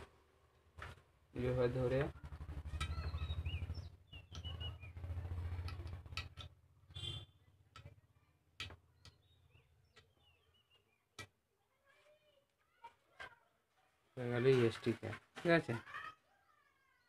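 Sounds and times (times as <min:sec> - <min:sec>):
small birds chirping: 0:01.3 - 0:17.0.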